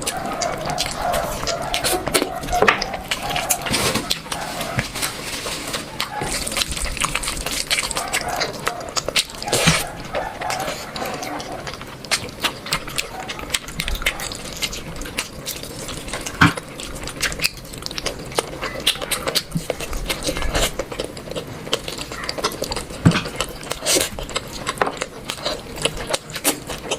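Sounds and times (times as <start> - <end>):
wet chewing of sticky food: 0.0 - 26.9.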